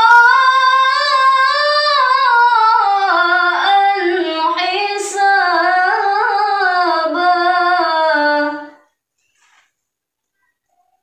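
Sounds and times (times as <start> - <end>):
woman reciting melodically: 0.0 - 9.1.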